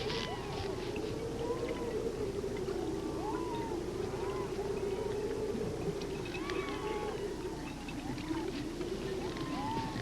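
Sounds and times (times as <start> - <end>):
seals whistle-like calls: 0.0 - 10.0.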